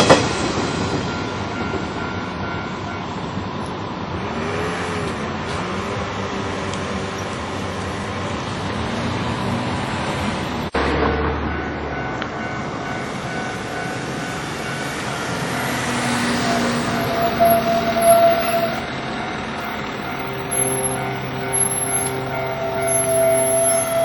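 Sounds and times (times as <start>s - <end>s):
road traffic: 0.0s - 24.0s
train rumbling past: 0.0s - 24.0s.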